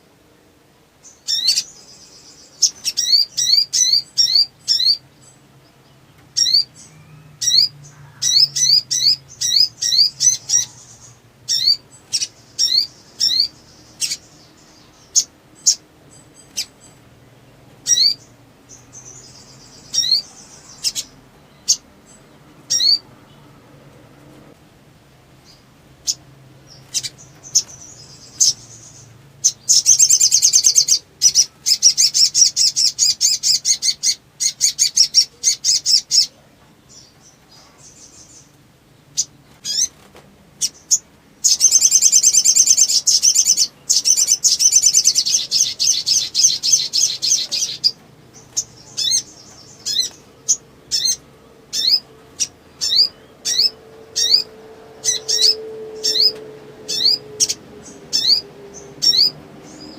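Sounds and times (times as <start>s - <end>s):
bird singing high trills: 1.0s - 17.0s, 17.8s - 23.4s, 25.4s - 38.5s, 39.2s - 59.9s
bird chirps: 1.0s - 23.5s, 25.4s - 59.9s.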